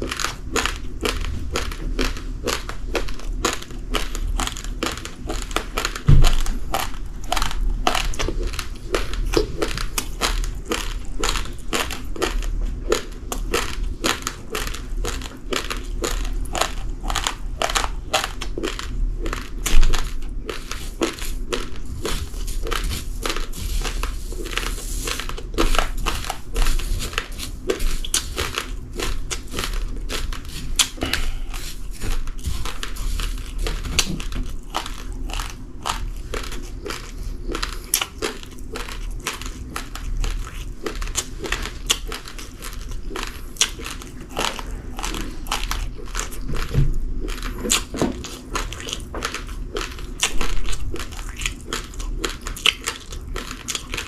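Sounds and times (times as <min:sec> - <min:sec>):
chewing crunchy rice: 0:00.0 - 0:54.0.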